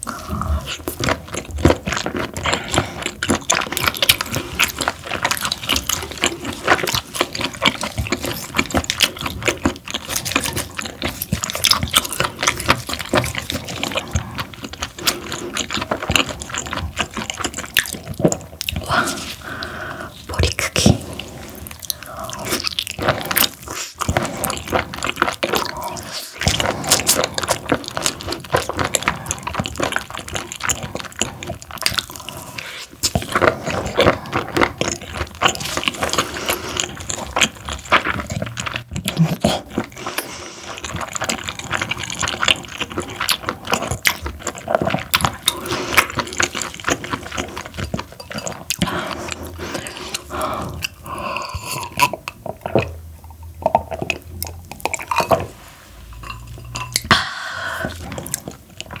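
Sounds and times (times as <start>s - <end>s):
wet chewing: 0.0s - 59.0s.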